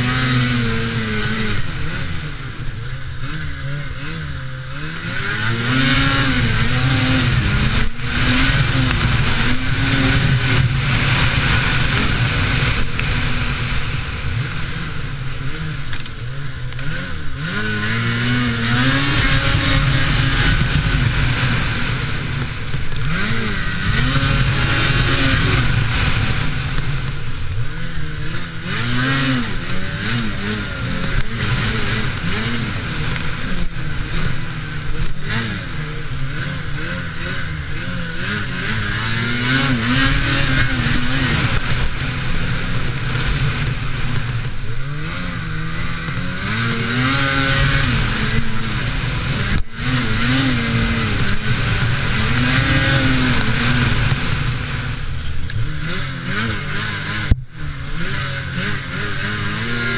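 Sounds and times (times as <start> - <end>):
snowmobile engine revving: 0.0 - 59.9
steady rushing noise: 0.0 - 59.9.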